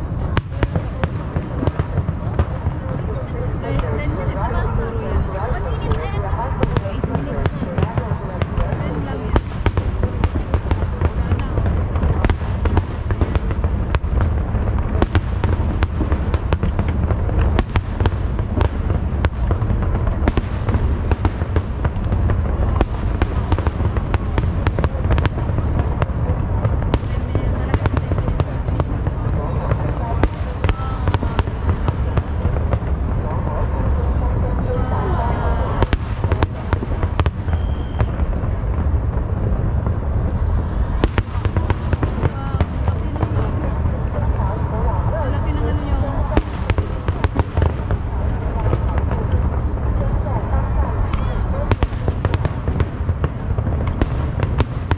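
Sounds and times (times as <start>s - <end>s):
fireworks rumbling and cracking: 0.0s - 54.9s.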